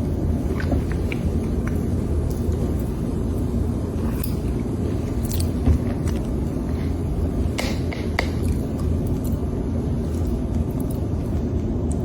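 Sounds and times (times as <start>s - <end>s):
person chewing food: 0.0s - 7.0s, 7.6s - 12.0s
steady low rumble: 0.0s - 12.0s.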